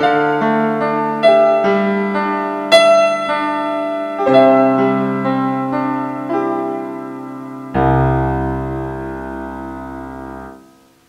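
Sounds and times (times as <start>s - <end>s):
digital piano chord ringing: 0.0s - 10.9s.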